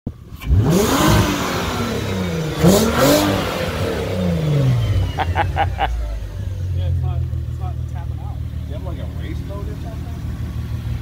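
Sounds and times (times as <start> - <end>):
car engine revving: 0.2 - 11.0.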